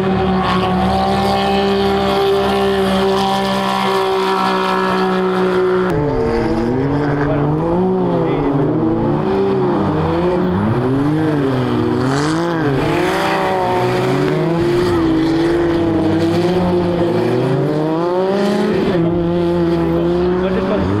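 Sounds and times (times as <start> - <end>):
buggy engines revving: 0.0 - 21.0.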